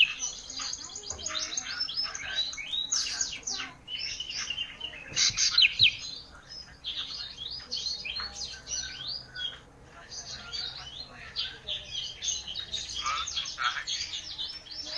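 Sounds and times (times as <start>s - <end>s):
songbird chirping and trilling: 0.0s - 14.9s.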